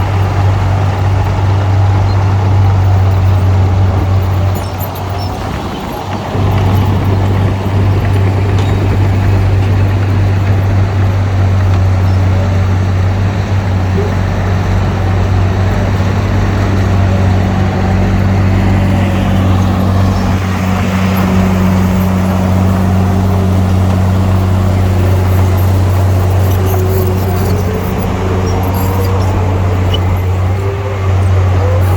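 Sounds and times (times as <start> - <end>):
heavy diesel engine droning: 0.0 - 31.9.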